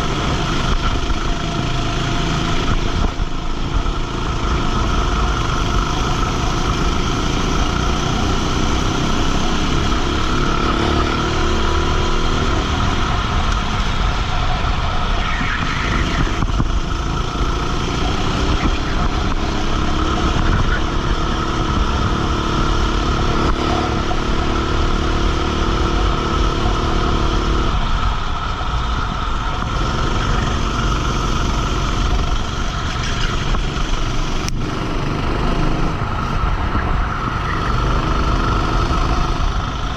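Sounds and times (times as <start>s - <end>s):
racing kart engine accelerating: 0.0s - 39.9s.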